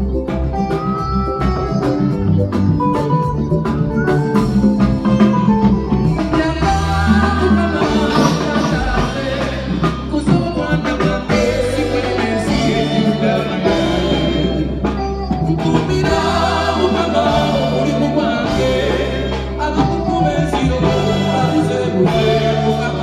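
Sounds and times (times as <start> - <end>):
drum strikes: 0.0 - 19.6
live band playing: 0.0 - 23.0.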